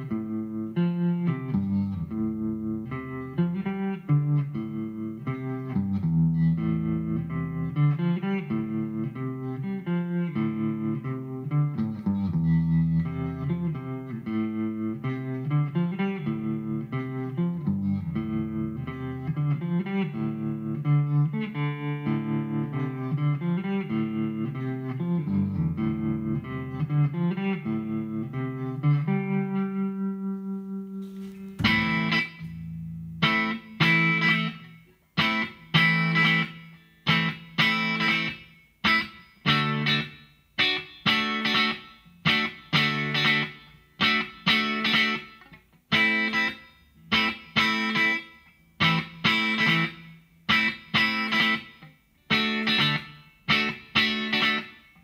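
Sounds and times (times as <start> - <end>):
bright strummed guitar chords: 0.0 - 55.0
clean electric guitar arpeggios: 0.0 - 55.0.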